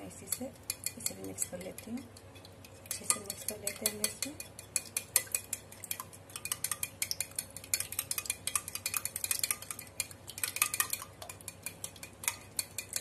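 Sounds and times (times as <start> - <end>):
spoon beating eggs in glass bowl: 0.0 - 13.0.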